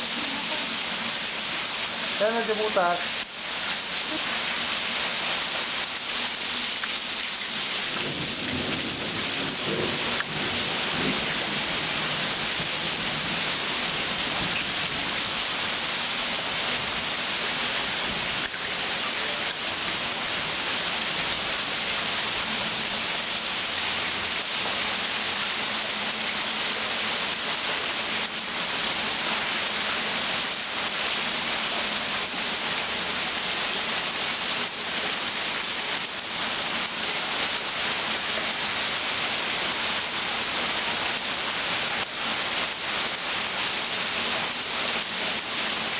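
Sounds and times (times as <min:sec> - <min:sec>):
heavy rain splashing into water: 0:00.0 - 0:45.9.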